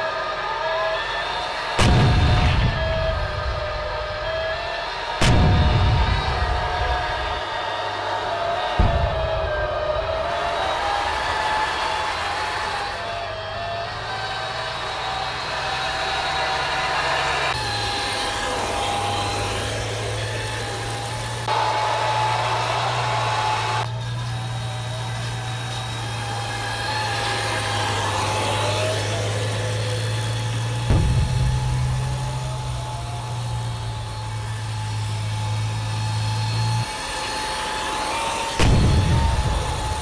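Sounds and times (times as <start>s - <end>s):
model tank engine hum and whine: 0.0s - 40.0s.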